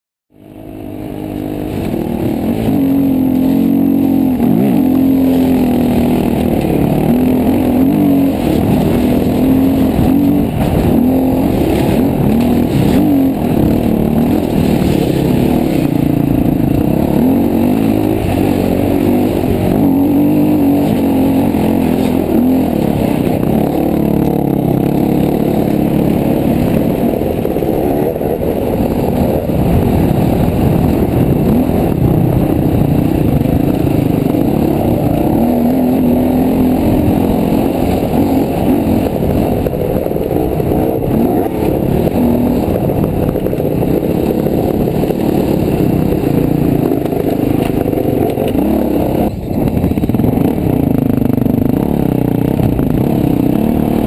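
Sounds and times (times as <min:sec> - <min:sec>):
muffled dirt bike engine: 0:00.3 - 0:54.0.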